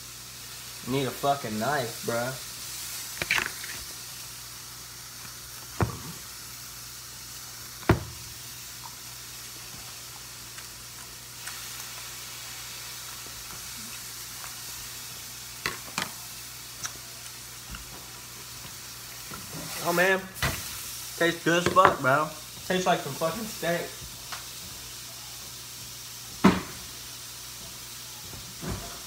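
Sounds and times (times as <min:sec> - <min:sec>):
meat sizzling in a frying pan: 0:00.0 - 0:29.0.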